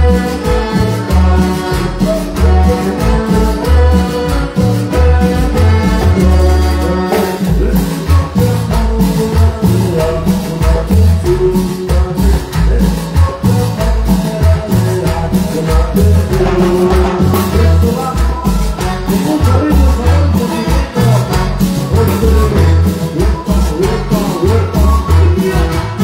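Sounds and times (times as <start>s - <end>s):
band playing cumbia: 0.0s - 26.0s
guiro scraped in rhythm: 0.0s - 26.0s
pulsing bass line: 0.0s - 26.0s
steady percussion: 0.0s - 26.0s.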